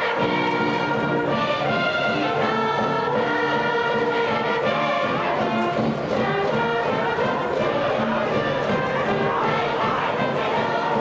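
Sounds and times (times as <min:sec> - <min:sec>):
brass band music: 0:00.0 - 0:11.0.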